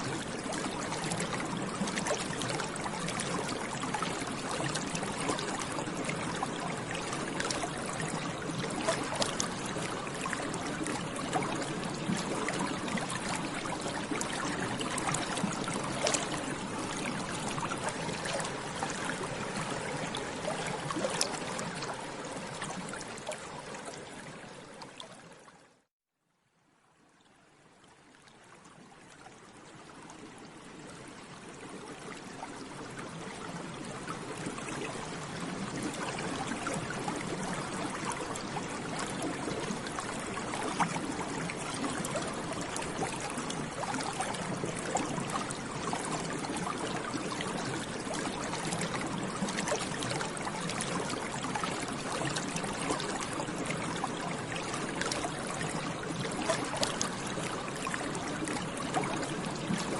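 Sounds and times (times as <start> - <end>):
water bubbling: 0.1 - 24.8, 32.4 - 59.9.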